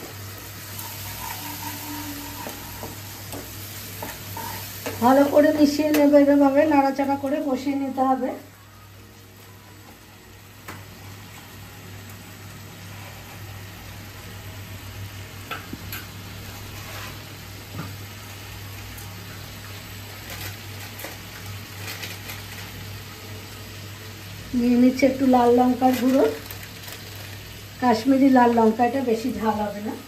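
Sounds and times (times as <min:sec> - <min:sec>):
paste sizzling and bubbling: 0:00.0 - 0:30.0.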